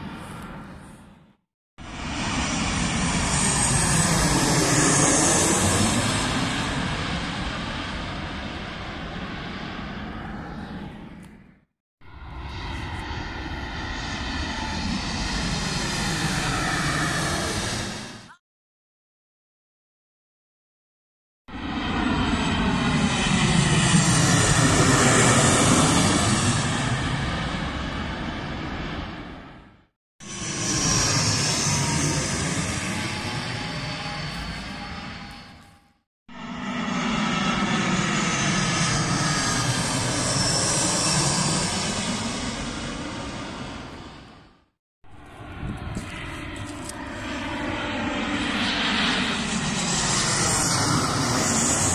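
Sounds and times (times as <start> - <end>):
jet airliner flying low past: 0.0 - 18.4, 21.5 - 51.9.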